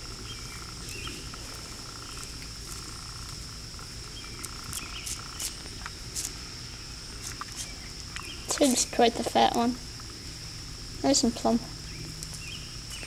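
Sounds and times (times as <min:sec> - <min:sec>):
crickets trilling: 0:00.0 - 0:13.0
pulsing insect trill: 0:00.0 - 0:13.0.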